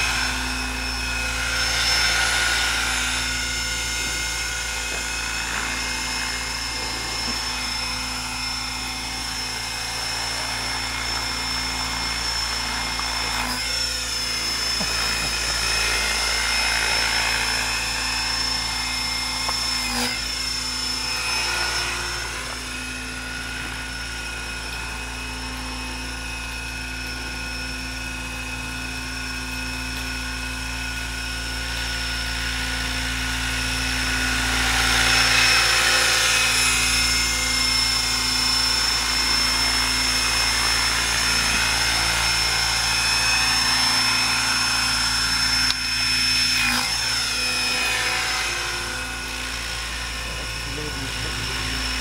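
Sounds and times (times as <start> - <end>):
model helicopter whine: 0.0 - 52.0.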